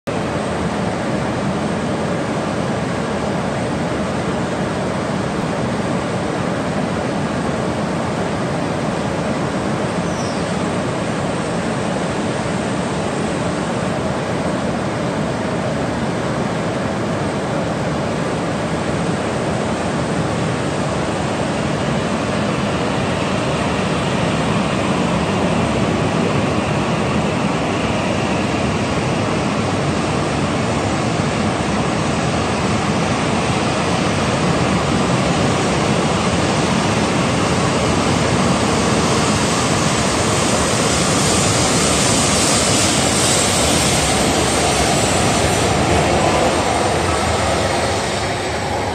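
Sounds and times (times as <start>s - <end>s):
train rushing past: 0.1s - 48.9s.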